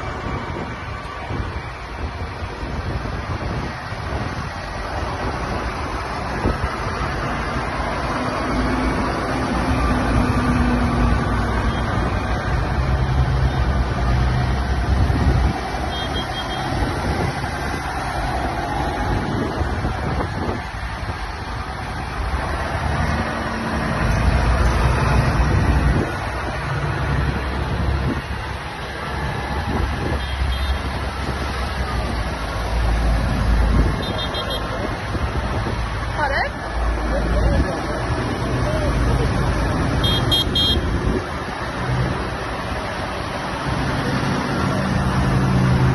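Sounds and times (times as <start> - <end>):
tractors driving past: 0.0 - 45.9.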